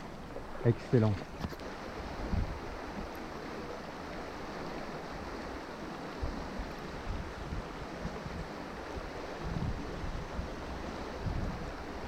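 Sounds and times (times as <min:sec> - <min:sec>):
river water flowing over stones: 0:00.0 - 0:12.0.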